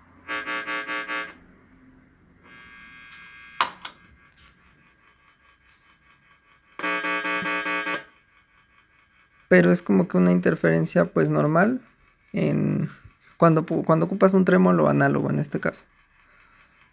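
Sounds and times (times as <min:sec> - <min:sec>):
faint rhythmic ticking: 0:02.6 - 0:16.9.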